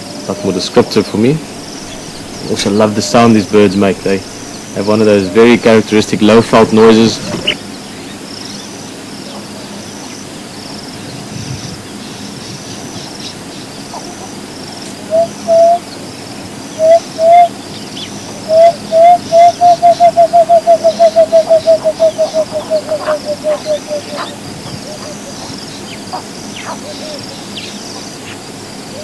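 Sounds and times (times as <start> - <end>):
dove low hooting notes: 0.0 - 29.0.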